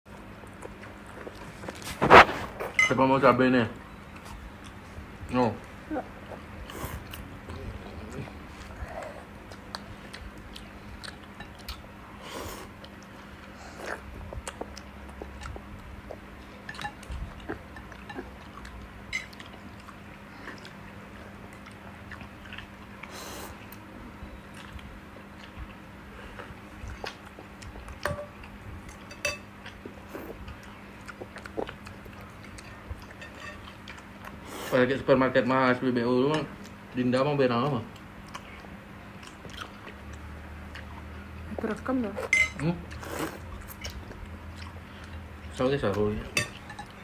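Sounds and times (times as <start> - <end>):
child chewing food: 0.1 - 47.0
faint steady hum: 0.1 - 47.0.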